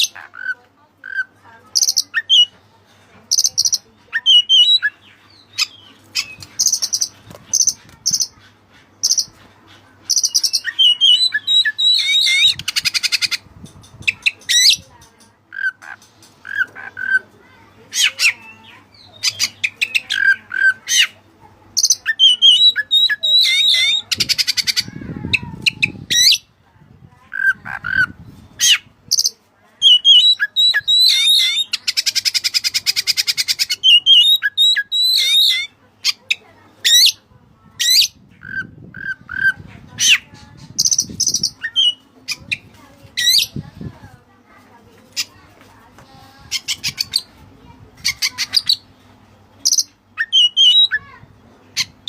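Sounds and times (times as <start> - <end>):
magpie-robin singing: 0.0 - 2.6, 3.3 - 21.2, 21.8 - 26.5, 27.2 - 43.9, 46.2 - 47.4, 48.0 - 48.9, 49.6 - 52.0.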